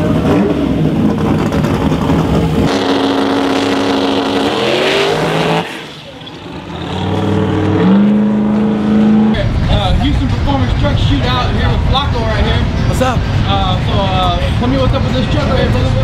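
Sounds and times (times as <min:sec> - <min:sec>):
loud engine revving: 0:00.0 - 0:13.9.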